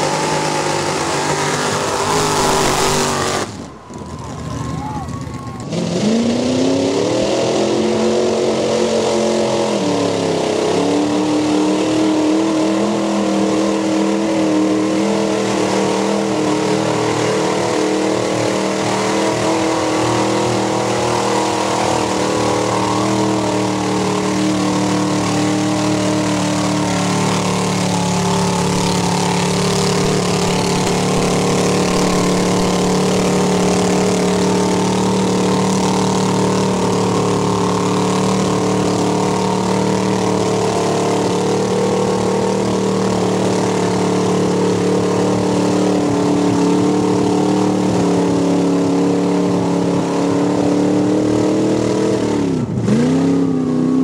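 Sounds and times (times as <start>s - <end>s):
truck churning through mud: 0.0s - 54.0s
truck engine revving: 0.0s - 54.0s.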